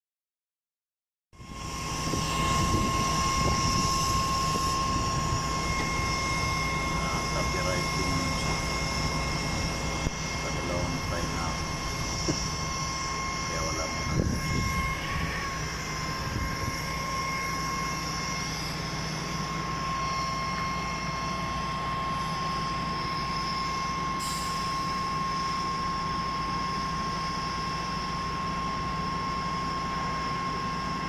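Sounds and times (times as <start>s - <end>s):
concrete pump engine idling: 1.4s - 31.0s
high whine: 1.4s - 31.0s.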